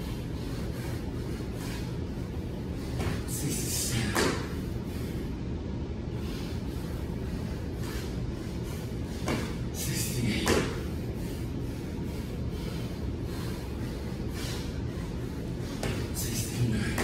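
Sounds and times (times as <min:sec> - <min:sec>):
man breathing hard: 0:00.0 - 0:17.0
steady low hum: 0:00.0 - 0:17.0.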